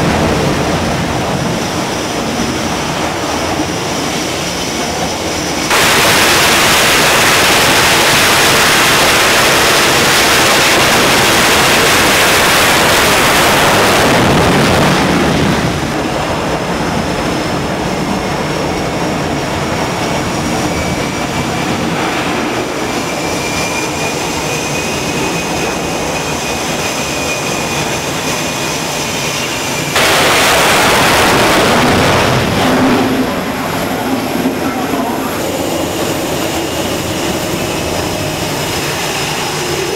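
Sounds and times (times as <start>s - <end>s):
jet engines at full thrust: 0.0s - 39.9s
jet engines running and whining: 0.0s - 39.9s.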